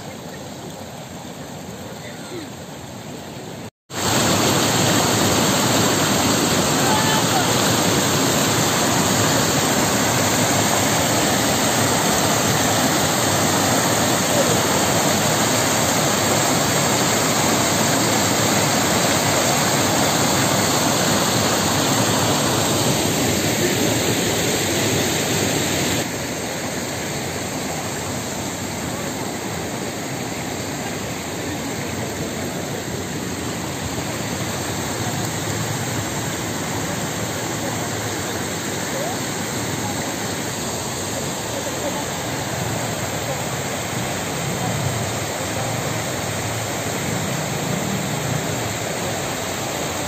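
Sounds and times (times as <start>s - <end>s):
rushing floodwater: 0.0s - 50.0s.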